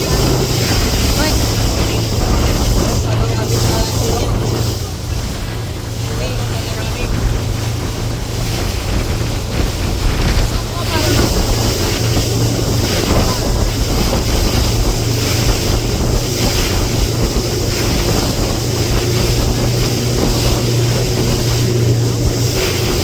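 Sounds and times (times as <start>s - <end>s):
speedboat engine running: 0.0s - 23.0s
water rushing: 0.0s - 23.0s
wind buffeting microphone: 0.0s - 23.0s.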